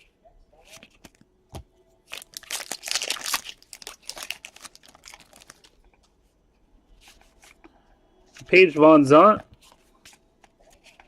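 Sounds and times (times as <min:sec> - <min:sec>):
trading cards crinkling and rustling: 0:00.6 - 0:06.2, 0:06.9 - 0:11.0.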